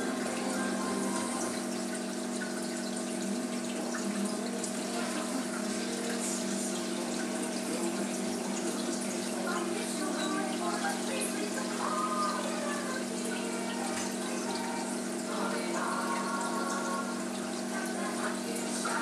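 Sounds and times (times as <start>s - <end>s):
aquarium pump hum: 0.0s - 19.0s
running water rushing: 0.0s - 19.0s.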